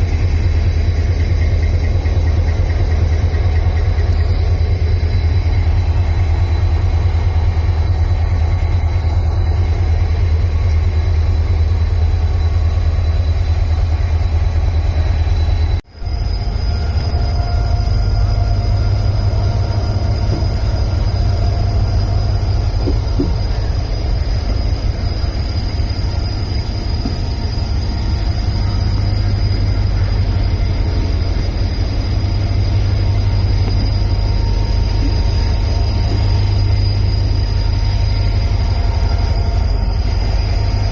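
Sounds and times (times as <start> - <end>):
train rumbling on track: 0.0 - 40.9.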